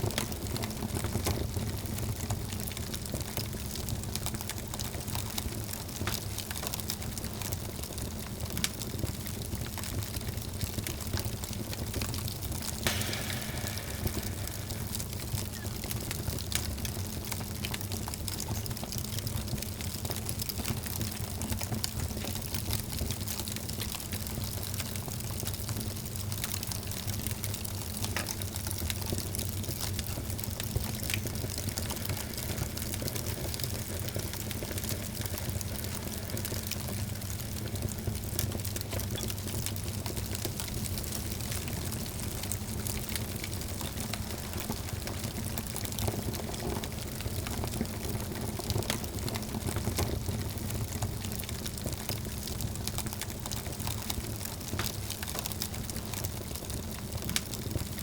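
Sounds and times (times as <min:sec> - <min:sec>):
low rumble of fire: 0:00.0 - 0:58.0
wood fire crackling: 0:00.0 - 0:58.0.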